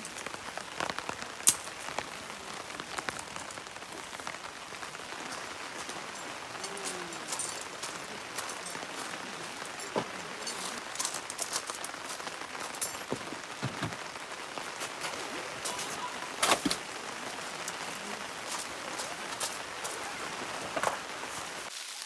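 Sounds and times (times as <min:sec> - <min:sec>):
heavy rain falling: 0:00.0 - 0:22.0
heavy raindrops striking: 0:00.0 - 0:22.0.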